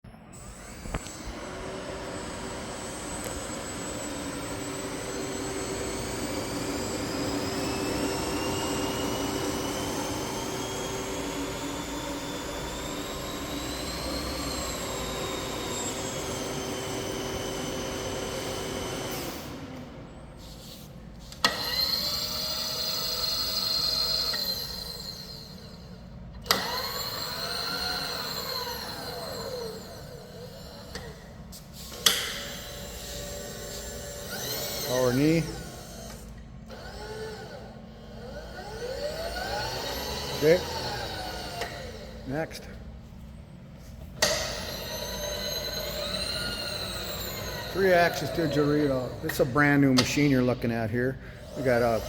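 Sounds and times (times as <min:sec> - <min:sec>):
milling machine whine: 0:00.2 - 0:52.0.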